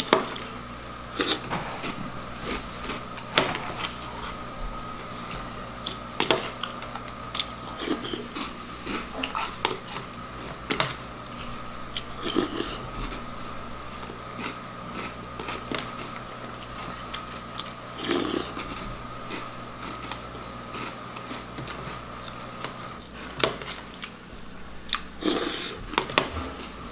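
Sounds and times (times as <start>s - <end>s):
crunchy chewing: 0.0s - 26.8s.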